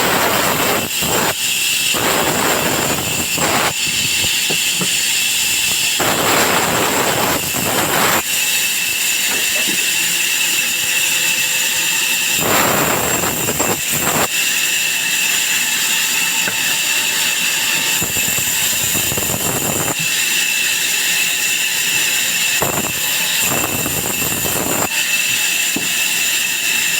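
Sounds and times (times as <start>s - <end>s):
saw blade cutting wood: 0.0s - 26.9s
saw whining: 0.0s - 26.9s.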